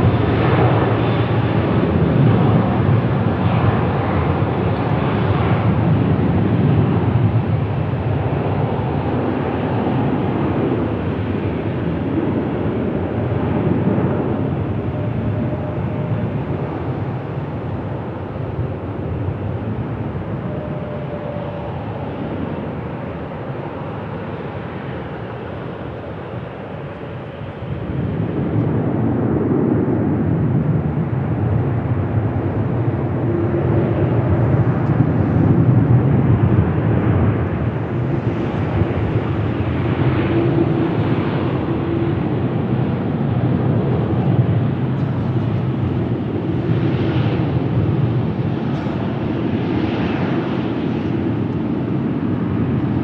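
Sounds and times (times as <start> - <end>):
jet airliner engines running: 0.0 - 53.0.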